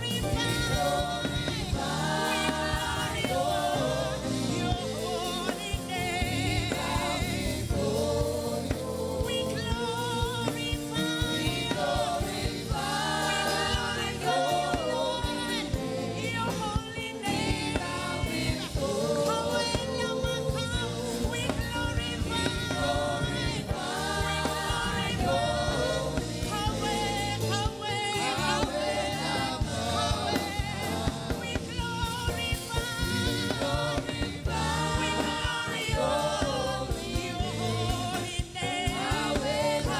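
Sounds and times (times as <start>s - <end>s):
instrumental accompaniment with beat: 0.0s - 39.9s
voices singing gospel song: 0.0s - 39.9s.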